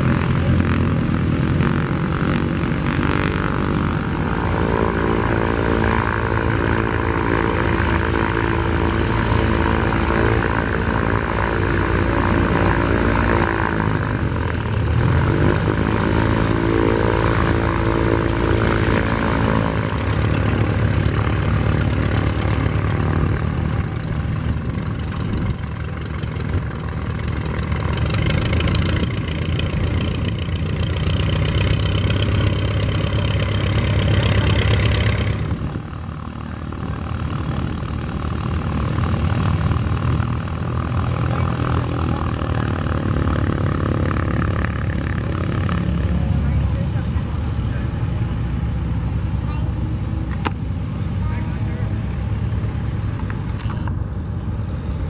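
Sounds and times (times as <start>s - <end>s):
aircraft taxiing past: 0.0s - 55.0s
propeller aircraft engine drone: 0.0s - 55.0s.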